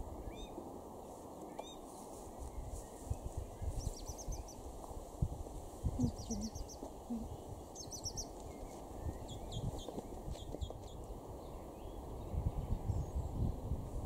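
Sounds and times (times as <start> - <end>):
wind rumble on microphone: 0.0 - 14.0
small birds chirping: 0.2 - 4.8, 5.8 - 13.6.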